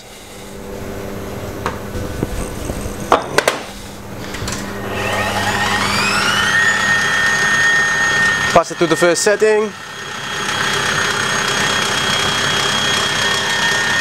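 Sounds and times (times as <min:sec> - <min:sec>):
stand mixer motor whine: 0:00.5 - 0:14.0.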